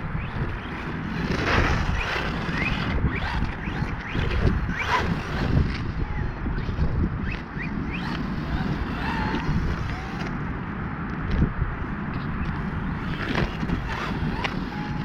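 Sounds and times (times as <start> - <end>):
electric motor whining: 0.0 - 10.5, 12.2 - 15.0
wind rumble on microphone: 0.0 - 15.0.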